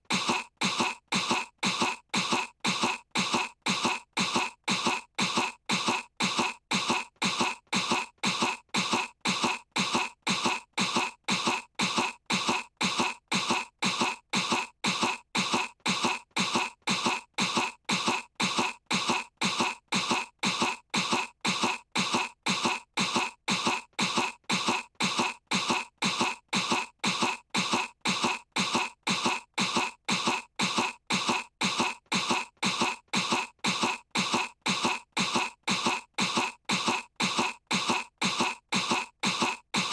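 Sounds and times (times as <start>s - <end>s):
girl fake coughing: 0.1s - 39.9s.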